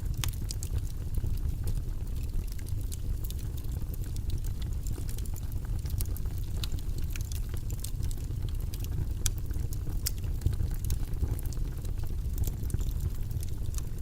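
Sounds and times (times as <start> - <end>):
faint crackles and clicks: 0.0 - 14.0.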